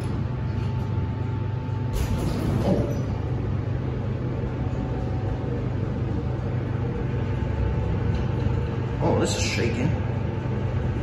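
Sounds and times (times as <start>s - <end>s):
elevator pump hum and rumble: 0.0s - 11.0s.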